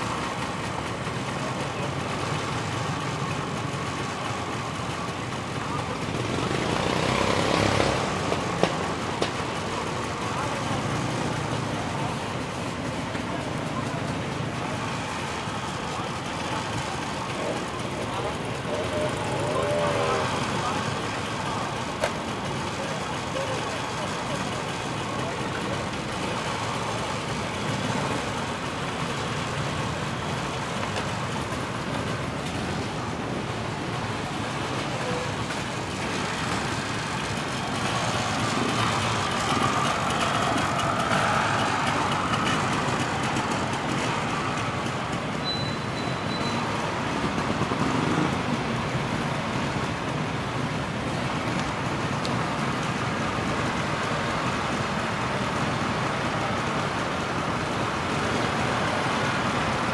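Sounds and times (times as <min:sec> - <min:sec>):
motorcycle and car engines running: 0:00.0 - 0:59.9.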